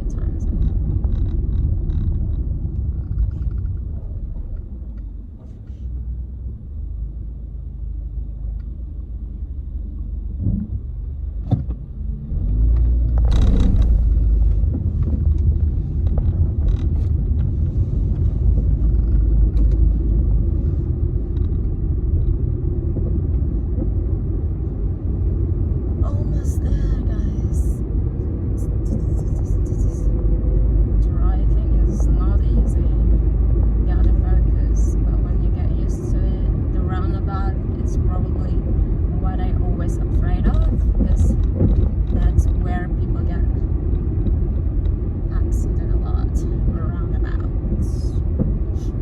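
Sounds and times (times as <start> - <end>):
car engine and tyres rumbling: 0.0 - 49.0.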